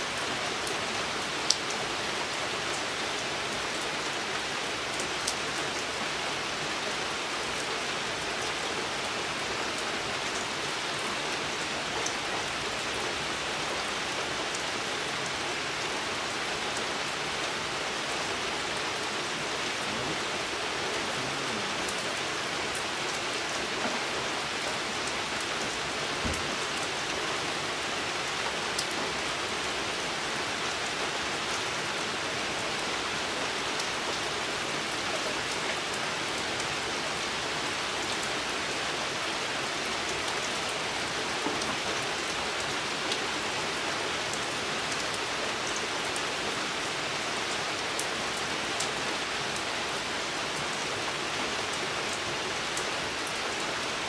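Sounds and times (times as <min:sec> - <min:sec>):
rain on foliage and ground: 0:00.0 - 0:54.0.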